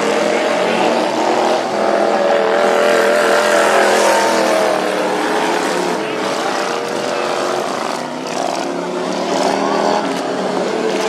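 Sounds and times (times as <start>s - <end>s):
lawn mower engines at high revs: 0.0s - 11.0s.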